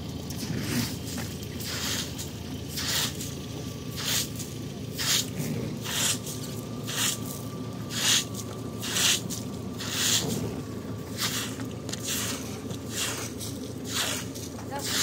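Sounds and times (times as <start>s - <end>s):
broom sweeping water on concrete: 0.6s - 15.0s.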